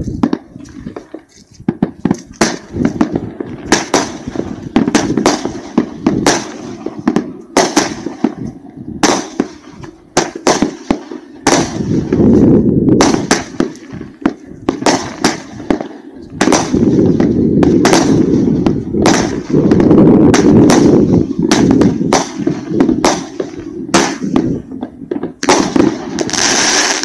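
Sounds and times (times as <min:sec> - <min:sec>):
firework shells bursting with crackle: 0:00.0 - 0:27.0.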